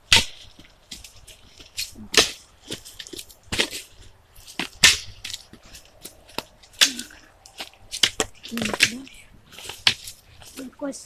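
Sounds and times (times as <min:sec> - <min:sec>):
dry sticks snapping: 0:00.0 - 0:10.7.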